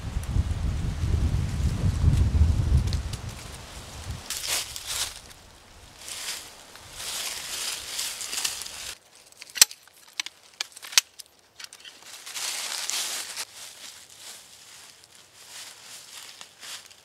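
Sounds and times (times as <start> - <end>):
dry leaves crunching underfoot: 2.2 - 17.0.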